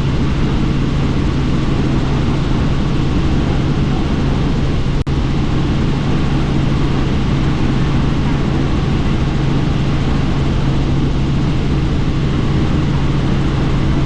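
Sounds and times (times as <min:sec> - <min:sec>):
helicopter rotor and engine drone: 0:00.0 - 0:14.0
wind rush: 0:00.0 - 0:14.0.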